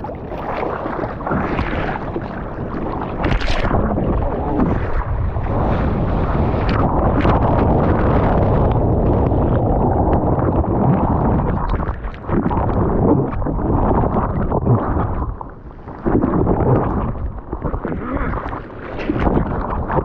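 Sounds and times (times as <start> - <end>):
water rushing: 0.0 - 20.0
wind buffeting microphone: 0.0 - 20.0.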